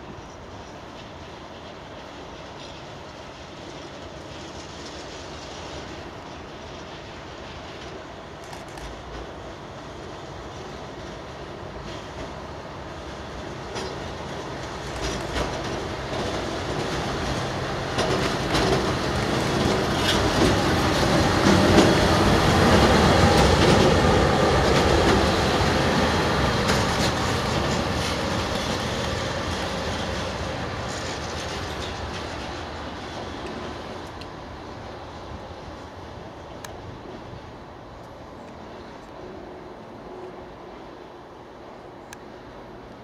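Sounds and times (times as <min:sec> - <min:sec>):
track machine engine and wheels: 0:00.0 - 0:43.0.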